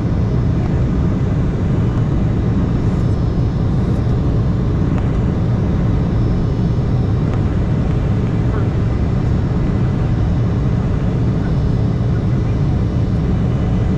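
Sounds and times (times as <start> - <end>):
jet cabin engine and air noise: 0.0 - 13.9.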